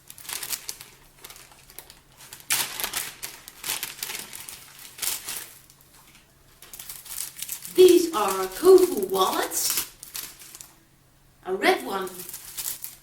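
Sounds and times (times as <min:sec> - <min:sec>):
packaging crinkling and rustling: 0:00.0 - 0:10.8, 0:12.1 - 0:13.0.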